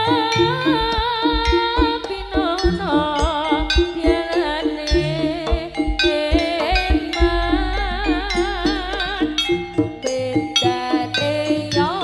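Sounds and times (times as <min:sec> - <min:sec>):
drums beating: 0:00.0 - 0:12.0
struck metal notes: 0:00.0 - 0:12.0
wavering lead melody: 0:00.0 - 0:12.0.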